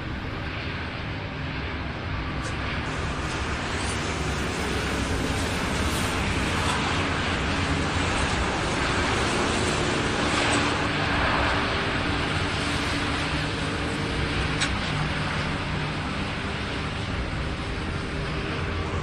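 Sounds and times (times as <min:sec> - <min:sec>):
strong wind: 0:00.0 - 0:19.0.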